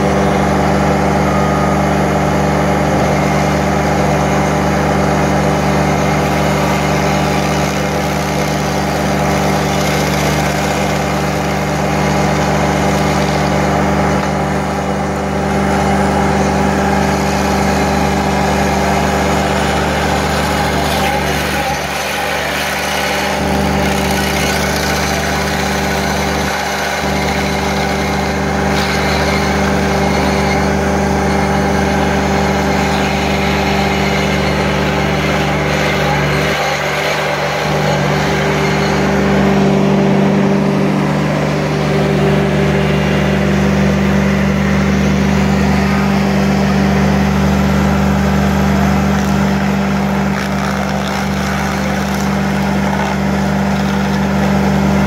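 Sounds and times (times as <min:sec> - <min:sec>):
loader engine running: 0:00.0 - 0:55.0
stump grinder chewing wood: 0:00.0 - 0:55.0.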